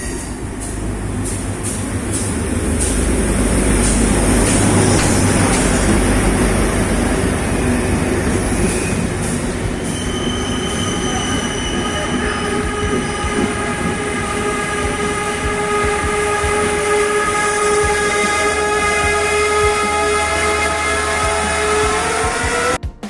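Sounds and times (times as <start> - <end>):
high metallic train squeal: 0.0 - 22.8
low train rumble: 0.0 - 22.8.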